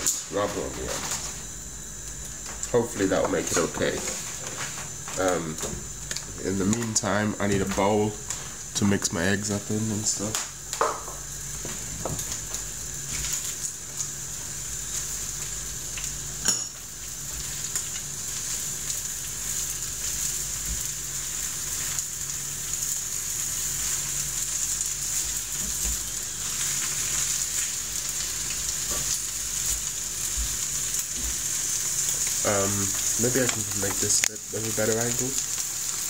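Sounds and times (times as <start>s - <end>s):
spinach sizzling in frying pan: 0.0s - 36.0s.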